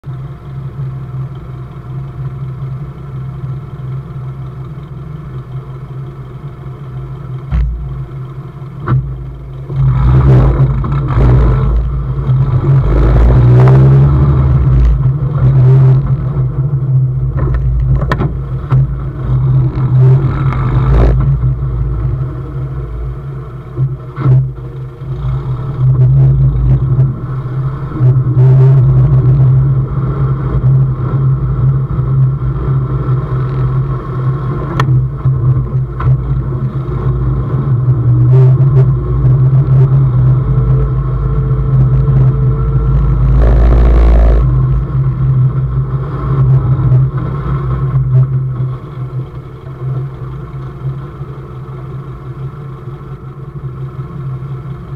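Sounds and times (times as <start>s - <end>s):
vehicle engine revving: 0.0s - 54.9s.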